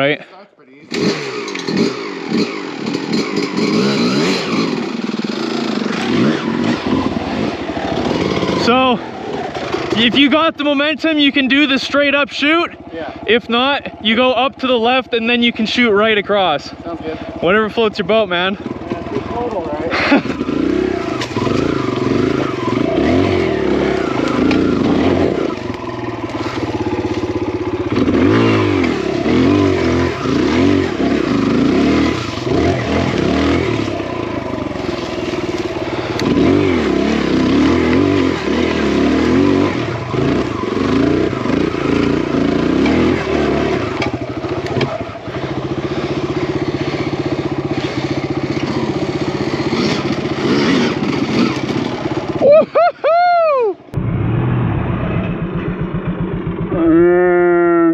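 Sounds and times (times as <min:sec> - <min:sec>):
dirt bike engine revving: 0:00.8 - 0:57.9.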